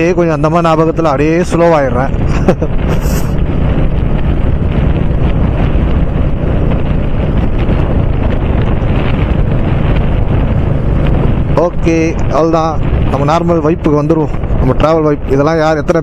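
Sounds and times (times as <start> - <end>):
motorcycle engine running: 0.0 - 14.6
wind buffeting microphone: 0.0 - 16.0.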